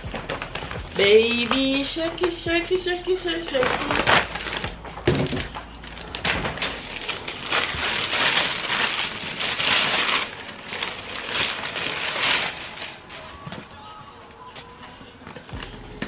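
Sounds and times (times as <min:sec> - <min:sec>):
gift packaging crinkling and tearing: 0:00.0 - 0:14.0.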